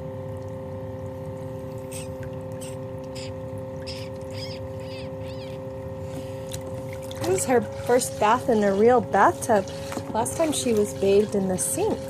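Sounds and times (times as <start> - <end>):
bathtub jet motor hum: 0.0 - 12.0.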